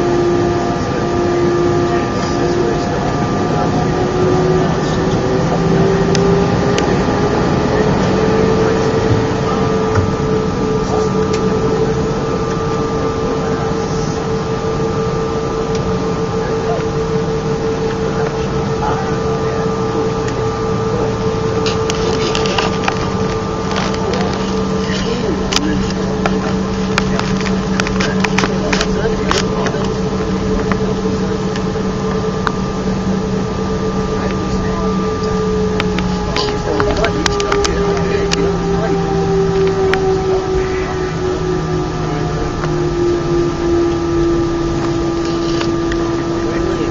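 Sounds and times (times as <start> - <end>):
constant cabin hum: 0.0 - 46.9
engine and airflow rush: 0.0 - 46.9.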